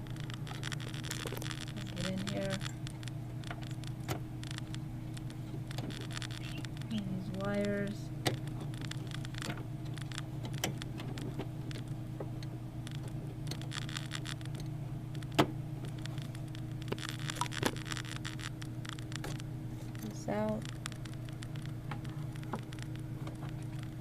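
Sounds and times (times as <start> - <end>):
connectors clicking and rattling: 0.0 - 24.0
steady low hum: 0.0 - 24.0.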